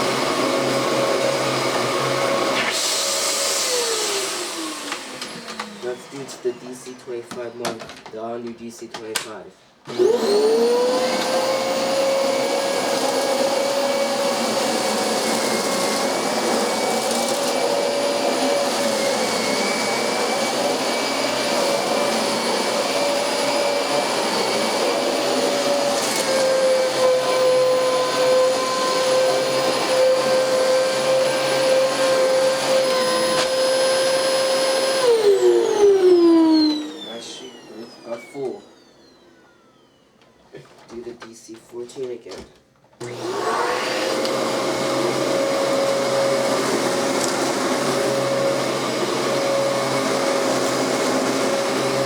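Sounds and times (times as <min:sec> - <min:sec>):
vacuum cleaner motor running: 0:00.0 - 0:08.0, 0:09.9 - 0:40.4, 0:43.0 - 0:52.0.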